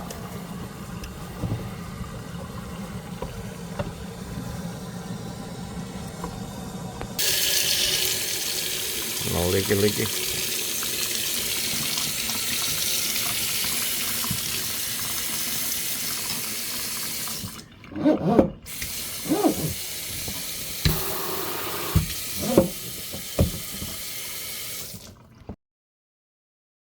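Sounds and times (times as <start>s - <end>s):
faucet water running into sink: 0.0s - 25.6s.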